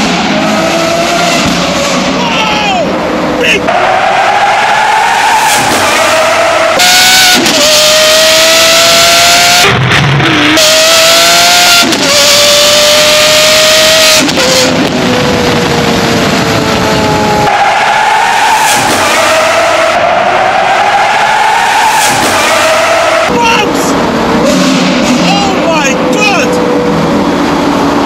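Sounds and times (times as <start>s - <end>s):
sports car engine at full throttle: 0.0s - 28.0s.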